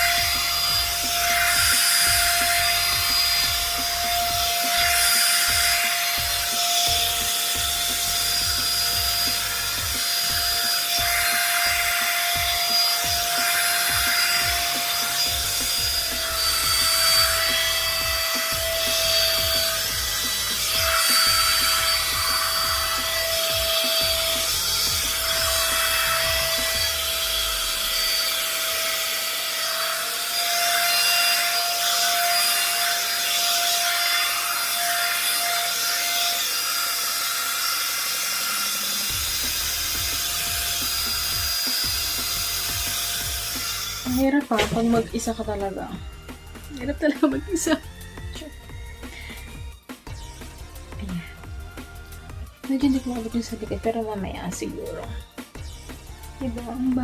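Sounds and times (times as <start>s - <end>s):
hair dryer motor whine: 0.0s - 57.0s.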